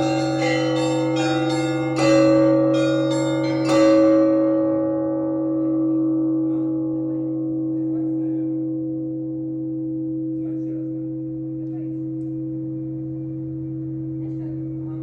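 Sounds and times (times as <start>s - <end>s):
church bells humming: 0.0s - 15.0s.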